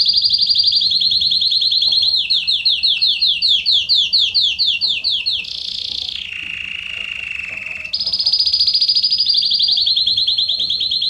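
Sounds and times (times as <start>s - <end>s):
canary singing trills: 0.0s - 11.0s.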